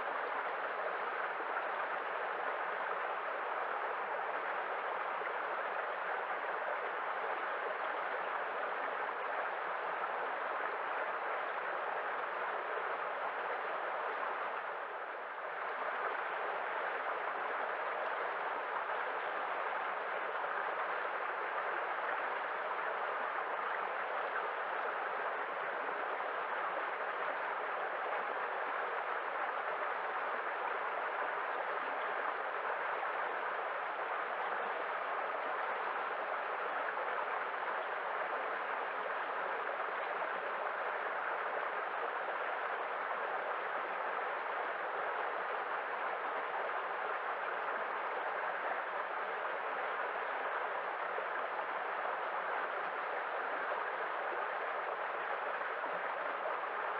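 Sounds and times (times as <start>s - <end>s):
water rushing: 0.1s - 56.9s.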